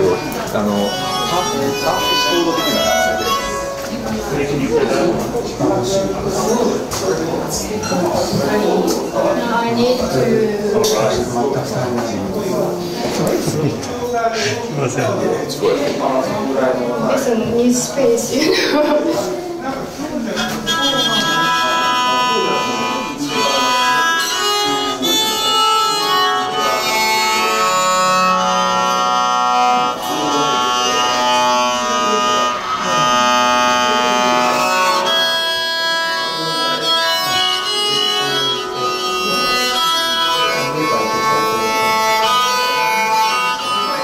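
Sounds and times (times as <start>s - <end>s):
wind and string instruments playing: 0.0s - 11.8s, 19.3s - 44.0s.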